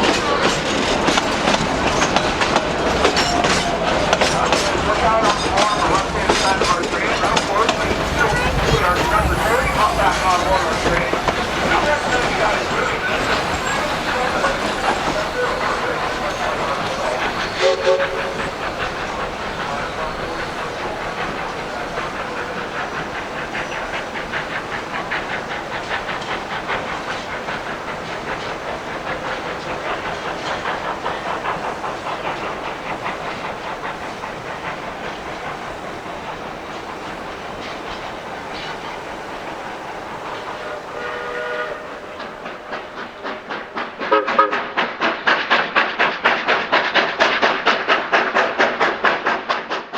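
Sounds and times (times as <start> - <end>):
steam train clickety-clack: 0.0 - 49.9.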